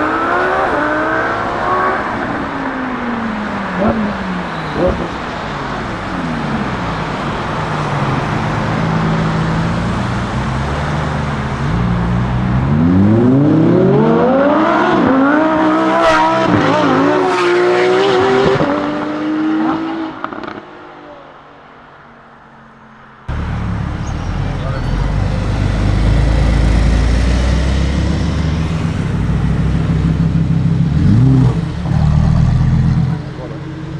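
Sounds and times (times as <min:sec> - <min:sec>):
sports car engine accelerating: 0:00.0 - 0:20.8, 0:23.3 - 0:33.9.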